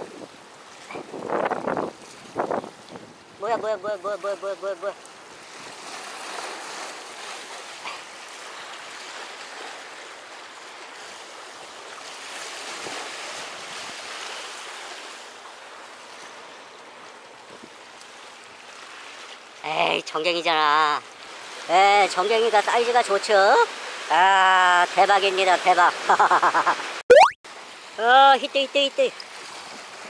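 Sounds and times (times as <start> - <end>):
sea waves washing among concrete blocks: 0.0 - 30.0.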